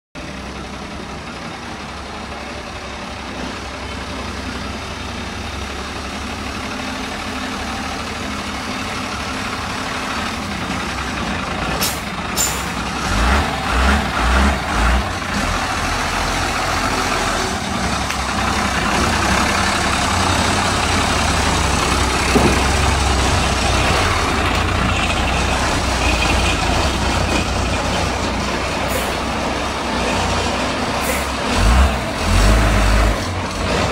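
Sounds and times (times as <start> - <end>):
diesel truck engine revving: 0.2 - 33.9.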